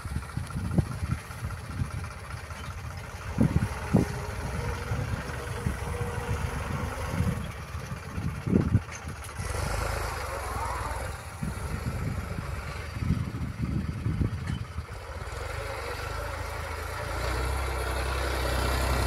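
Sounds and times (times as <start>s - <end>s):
diesel tractor engine under load: 0.0s - 19.0s.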